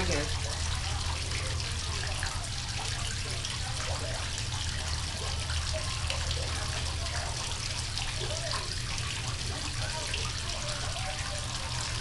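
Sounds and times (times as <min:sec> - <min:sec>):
continuous low hum: 0:00.0 - 0:12.0
trickling water: 0:00.0 - 0:12.0.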